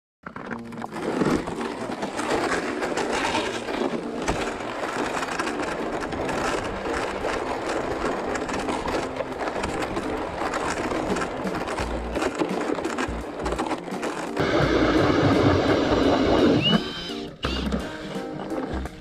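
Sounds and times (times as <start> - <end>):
sled scraping over snow: 0.2 - 19.0
boots crunching on ice: 0.6 - 18.0.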